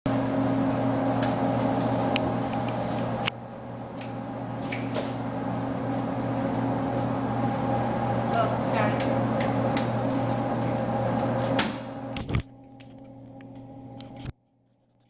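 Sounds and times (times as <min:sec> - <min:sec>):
large machine electrical hum: 0:00.1 - 0:15.0.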